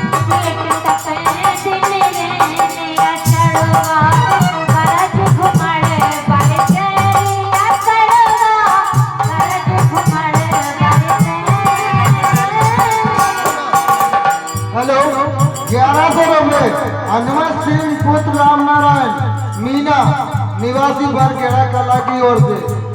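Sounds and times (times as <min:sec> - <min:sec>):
hand drum beat: 0:00.0 - 0:22.9.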